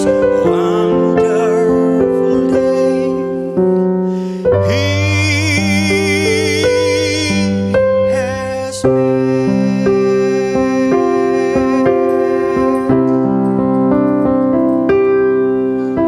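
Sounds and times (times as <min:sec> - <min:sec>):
person singing live: 0:00.0 - 0:13.2
electronic keyboard chords: 0:00.0 - 0:16.0.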